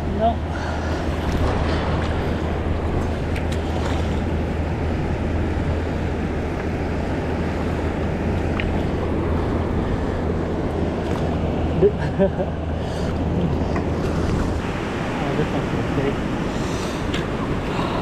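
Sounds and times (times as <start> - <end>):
ocean surf on beach: 0.0 - 18.0
wind rumbling on microphone: 0.0 - 18.0.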